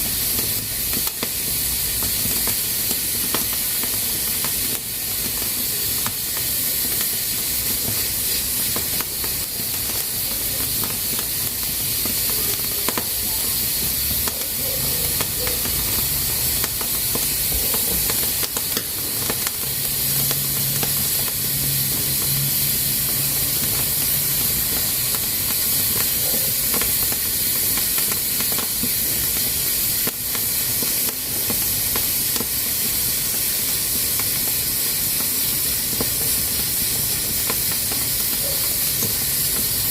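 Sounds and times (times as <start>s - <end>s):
pressure cooker hissing: 0.0s - 39.9s.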